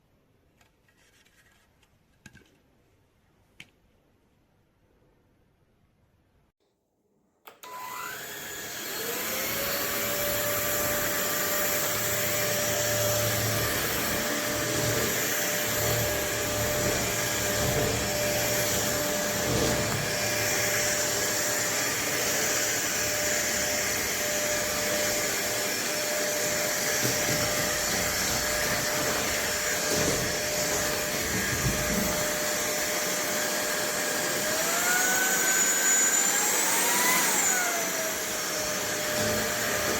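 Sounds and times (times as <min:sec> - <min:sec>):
vacuum motor whine: 0:07.5 - 0:39.9.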